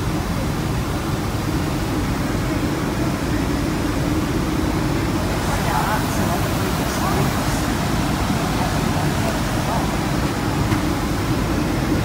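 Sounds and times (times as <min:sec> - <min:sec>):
aircraft cabin air rumble: 0:00.0 - 0:12.0.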